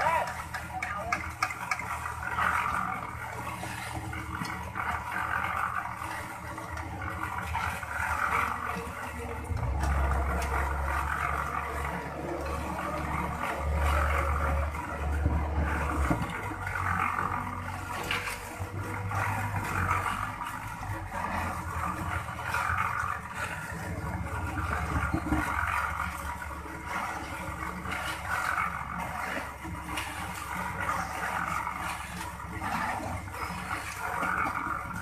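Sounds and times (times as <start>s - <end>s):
diesel engine rumbling under load: 0.0s - 35.0s.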